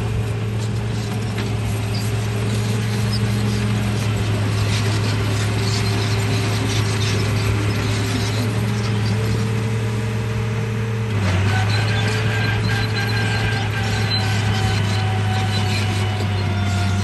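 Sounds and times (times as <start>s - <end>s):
toy bulldozer motor hum: 0.0s - 10.2s, 11.1s - 17.0s.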